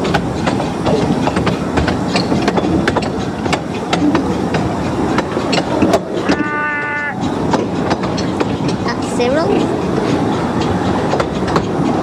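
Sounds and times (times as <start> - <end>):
train running rumble: 0.0 - 12.0
train wheels clicking over rail joints: 0.0 - 12.0.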